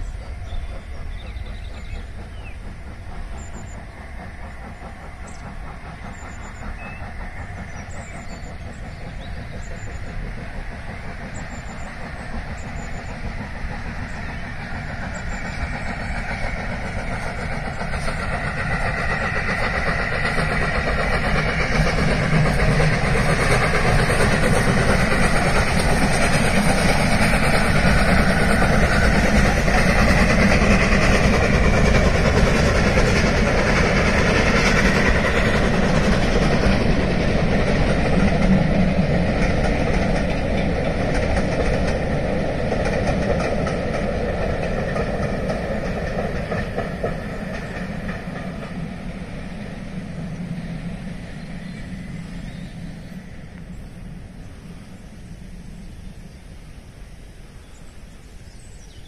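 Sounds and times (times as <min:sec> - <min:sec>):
steam locomotive hauling train: 0:00.0 - 0:59.0.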